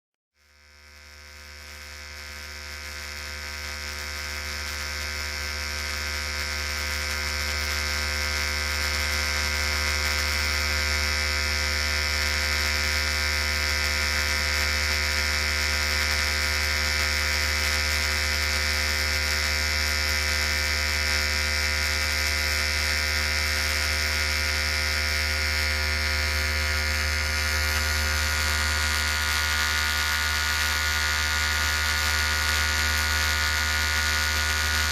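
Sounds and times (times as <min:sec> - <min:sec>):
electric hair clippers buzzing: 0:00.4 - 0:34.9.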